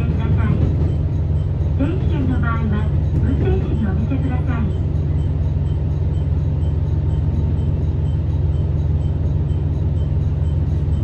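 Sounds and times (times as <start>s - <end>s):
diesel railcar engine drone: 0.0s - 11.0s.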